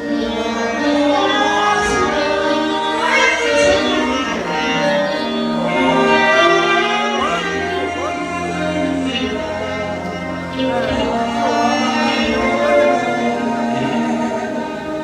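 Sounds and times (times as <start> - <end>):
low musical accompaniment: 0.0 - 15.0
saxophone long held notes: 0.0 - 15.0.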